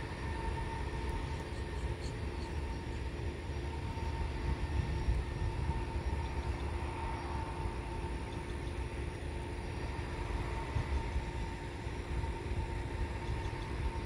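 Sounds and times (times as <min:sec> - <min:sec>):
distant jet engine rumble: 0:00.0 - 0:14.0
faint jet engine whine: 0:00.0 - 0:14.0.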